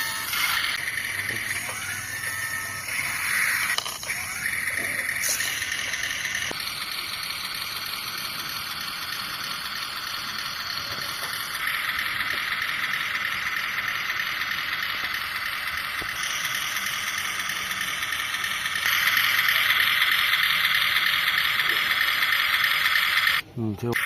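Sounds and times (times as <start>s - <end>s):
toy truck electric motor whirring: 0.0s - 23.4s.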